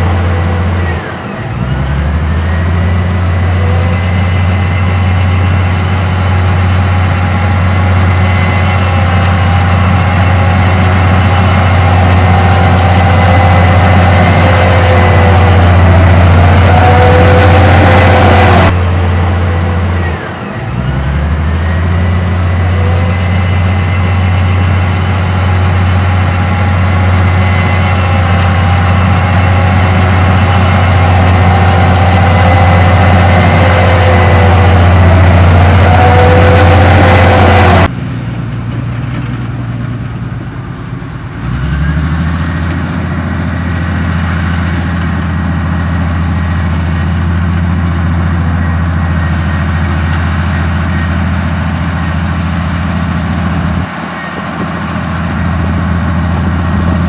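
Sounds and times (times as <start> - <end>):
bulldozer diesel engine: 0.0 - 57.0
rising engine whine: 0.0 - 57.0.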